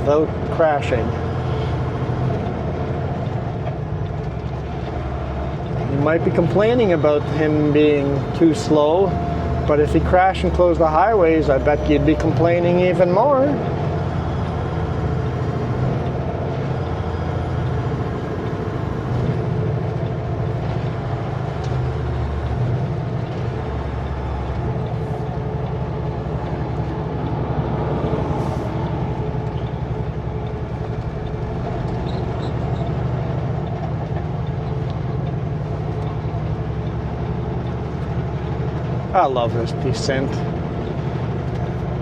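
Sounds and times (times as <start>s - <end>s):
road noise: 0.0s - 42.0s
truck diesel engine running: 0.0s - 42.0s.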